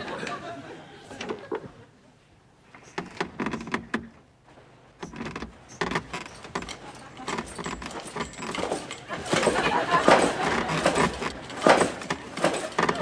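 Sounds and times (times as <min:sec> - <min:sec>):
bed creaking and rustling: 0:02.5 - 0:13.0.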